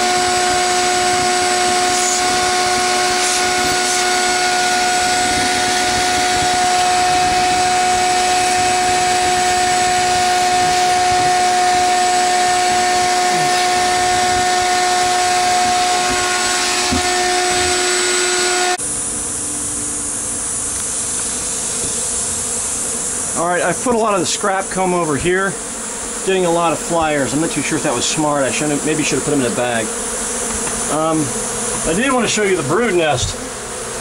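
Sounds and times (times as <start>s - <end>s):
bees humming: 0.0s - 34.0s
small electric motor whining: 0.0s - 34.0s.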